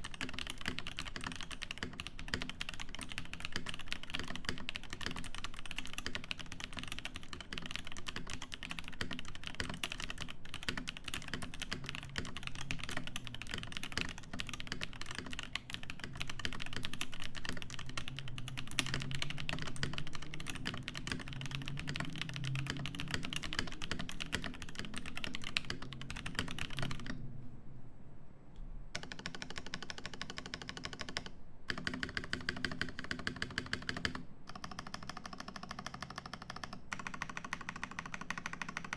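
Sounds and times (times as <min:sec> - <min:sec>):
fast typing on mechanical keyboard: 0:00.0 - 0:27.2, 0:29.0 - 0:38.9.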